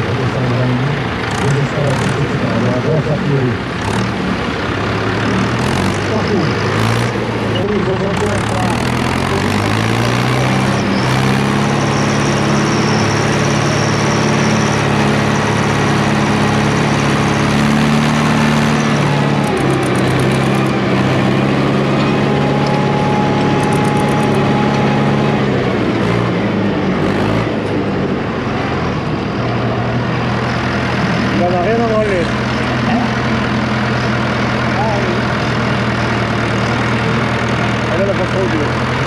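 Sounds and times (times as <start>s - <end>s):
tractor engine running under load: 0.0s - 39.0s.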